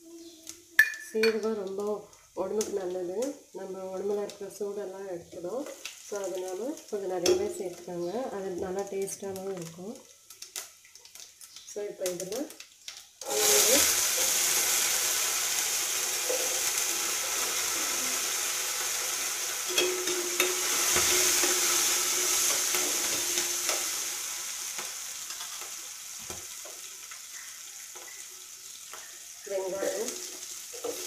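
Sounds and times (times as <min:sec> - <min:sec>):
garlic sizzling in hot oil: 0:00.0 - 0:31.0.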